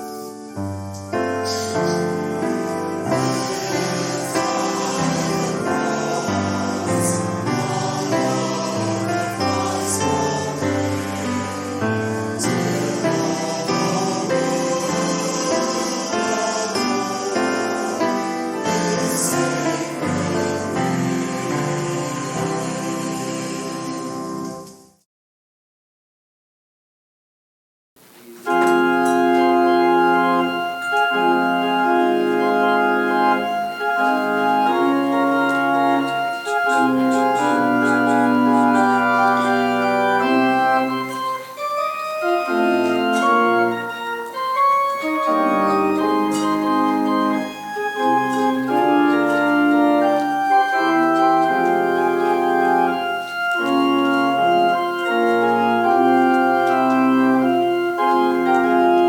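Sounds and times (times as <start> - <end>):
organ playing held chords: 0.0 - 24.8, 28.1 - 59.0.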